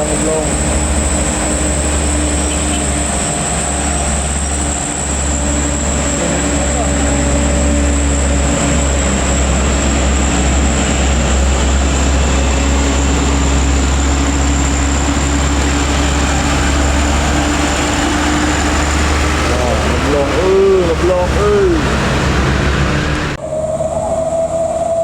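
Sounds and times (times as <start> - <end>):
heavy vehicle engine droning: 0.0 - 25.0.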